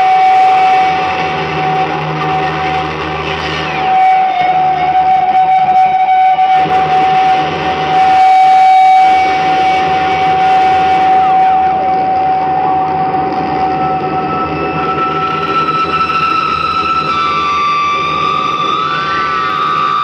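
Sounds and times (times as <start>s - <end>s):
dense shifting noise: 0.0s - 20.0s
falling pitch glides: 0.0s - 20.0s
loud held tone: 0.0s - 20.0s.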